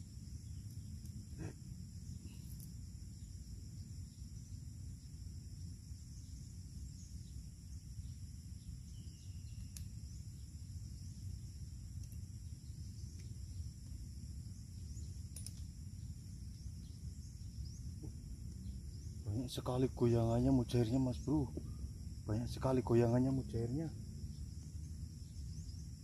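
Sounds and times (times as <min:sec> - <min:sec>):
insects chorus: 0:00.0 - 0:26.0
low steady rumble: 0:00.0 - 0:26.0.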